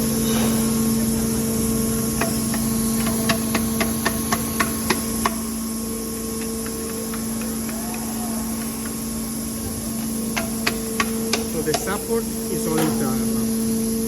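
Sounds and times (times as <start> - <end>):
factory machinery hum: 0.0 - 14.0.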